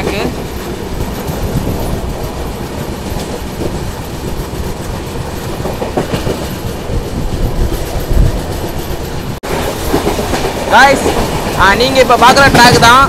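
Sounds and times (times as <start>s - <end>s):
train wheels rumbling on rails: 0.0s - 13.0s
wheels clacking over rail joints: 0.0s - 13.0s.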